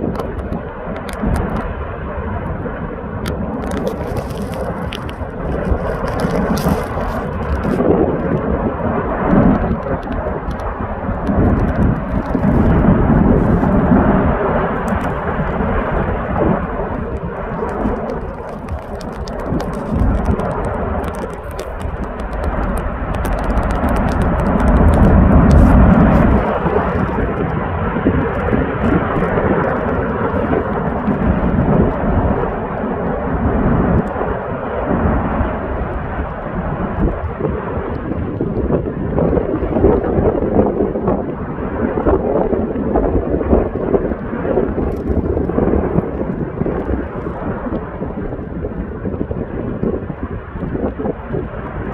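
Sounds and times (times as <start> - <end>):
volcano deep rumbling roar: 0.0 - 51.9
wind buffeting microphone: 0.0 - 51.9.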